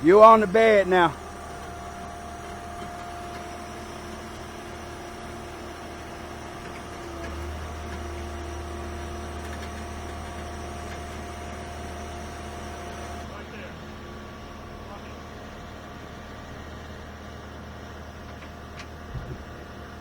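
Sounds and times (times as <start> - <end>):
winch and hydraulics humming: 0.0 - 20.0.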